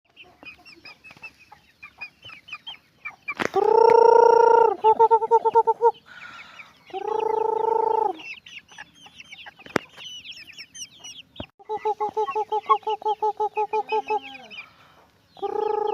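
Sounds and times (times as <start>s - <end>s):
chicken quick pulsed clucks: 0.1s - 6.1s, 6.9s - 14.7s
chicken drawn-out calls: 0.1s - 15.9s
chicks peeping: 0.1s - 15.9s.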